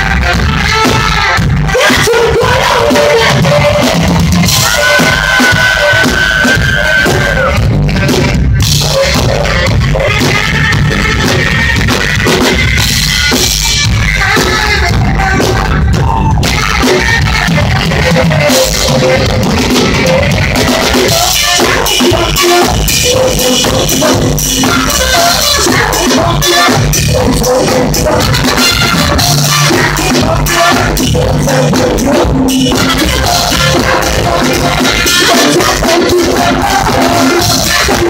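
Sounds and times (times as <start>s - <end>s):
drum kit: 0.0s - 38.0s
live rock band: 0.0s - 38.0s
saxophone: 0.0s - 38.0s.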